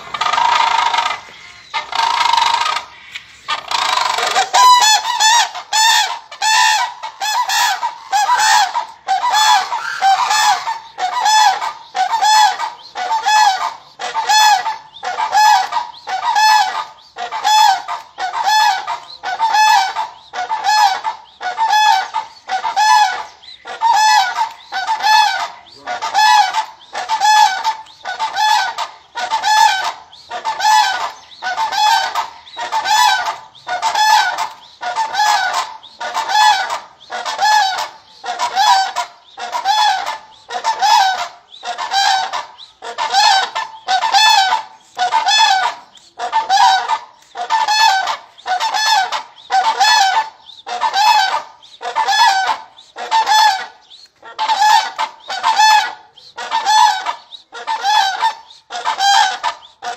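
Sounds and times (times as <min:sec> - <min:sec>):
crane honking calls: 0:00.0 - 0:59.9.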